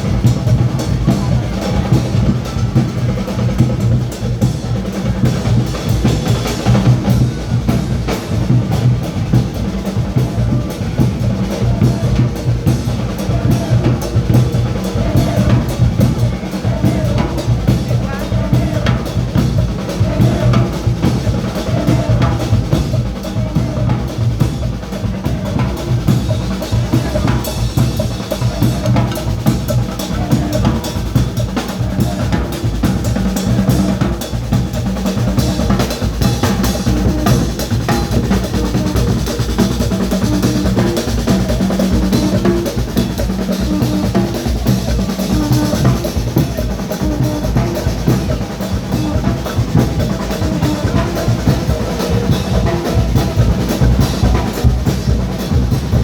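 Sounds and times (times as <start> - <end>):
bass and snare drumming: 0.0 - 56.0.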